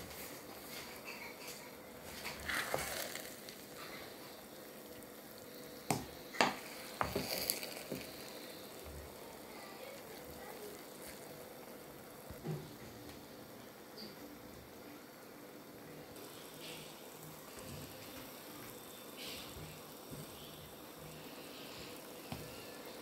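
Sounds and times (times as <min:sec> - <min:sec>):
rice sizzling in a pot: 0:00.0 - 0:23.0.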